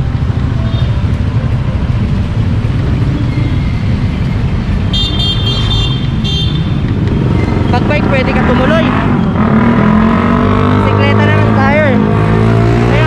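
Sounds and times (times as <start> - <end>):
motorcycles and cars passing: 0.0 - 13.0.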